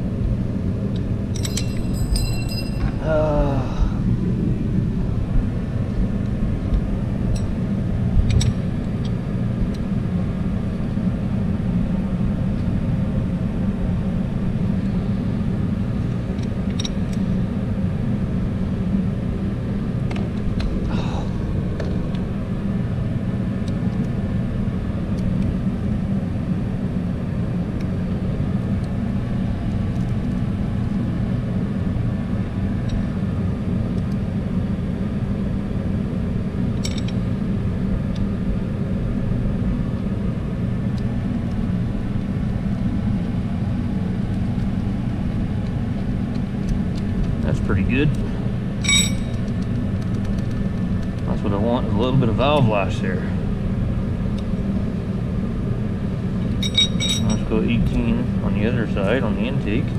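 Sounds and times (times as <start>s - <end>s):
low machine drone: 0.0s - 59.9s.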